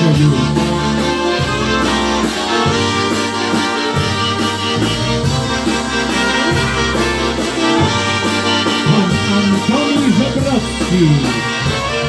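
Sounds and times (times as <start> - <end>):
accordion: 0.0 - 12.0
bass line: 0.0 - 12.0
brass playing: 0.0 - 12.0
steady cymbal beat: 0.0 - 12.0.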